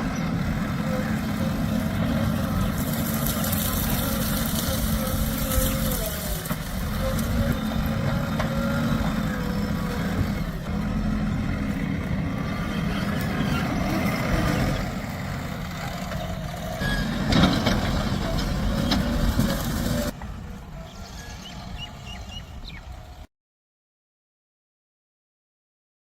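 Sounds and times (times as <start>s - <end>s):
diesel engine under load: 0.0s - 23.3s.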